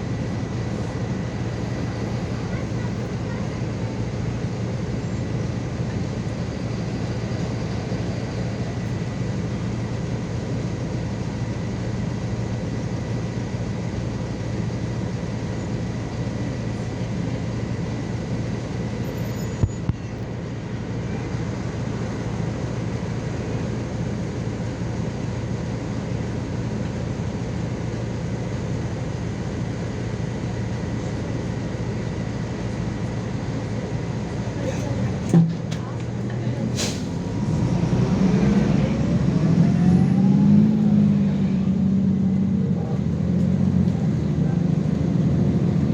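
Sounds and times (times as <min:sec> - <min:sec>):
bus engine hum from inside: 0:00.0 - 0:45.9.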